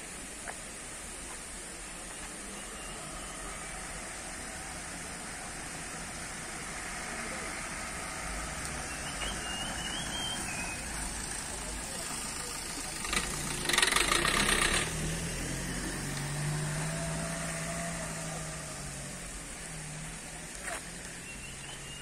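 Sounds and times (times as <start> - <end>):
car driving past: 2.6 - 22.0.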